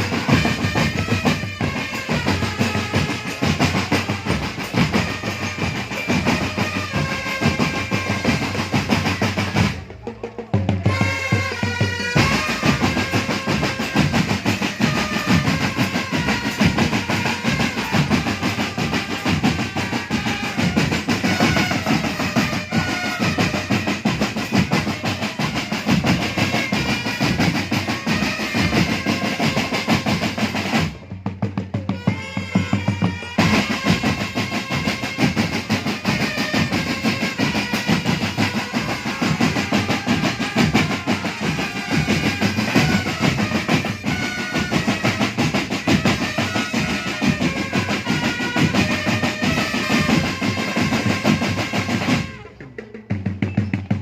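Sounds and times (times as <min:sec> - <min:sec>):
marching drum band playing: 0:00.0 - 0:54.0.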